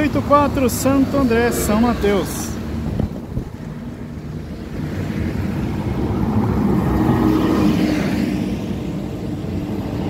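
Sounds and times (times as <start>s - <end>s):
bus passing by: 0.0s - 10.0s.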